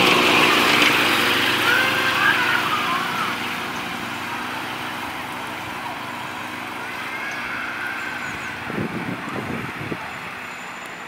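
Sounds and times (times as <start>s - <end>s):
small locomotive engine running: 0.0s - 11.0s.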